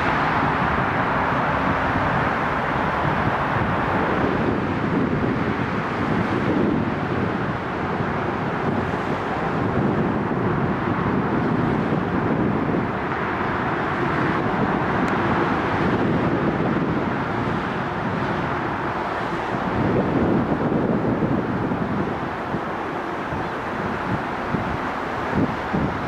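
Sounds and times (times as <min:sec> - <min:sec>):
city traffic noise: 0:00.0 - 0:26.0
train rumbling over bridge: 0:00.0 - 0:26.0
wind buffeting microphone: 0:00.0 - 0:26.0.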